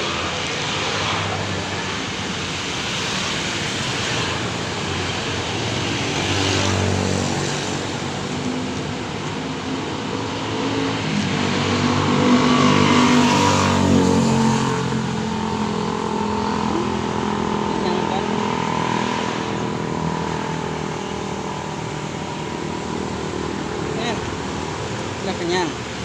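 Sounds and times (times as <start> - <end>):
traffic noise: 0.0 - 26.0.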